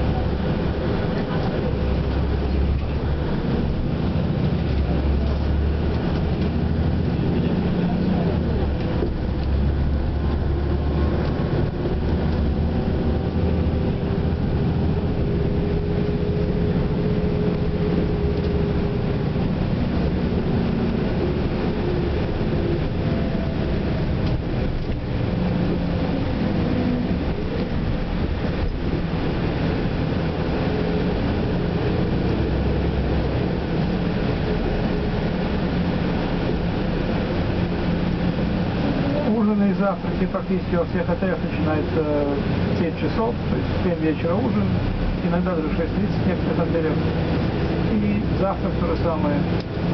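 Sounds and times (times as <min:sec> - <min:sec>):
bus engine rumbling: 0:00.0 - 0:49.9.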